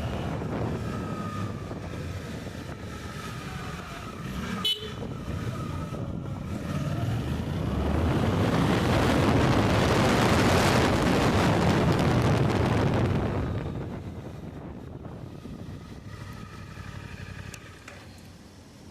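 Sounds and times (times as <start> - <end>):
wind rush on microphone: 0.0 - 17.1
motorcycle engine at speed: 0.0 - 18.5.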